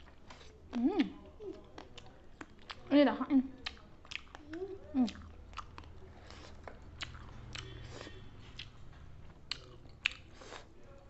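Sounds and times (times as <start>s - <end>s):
person chewing food: 0.0s - 2.9s, 3.5s - 11.0s.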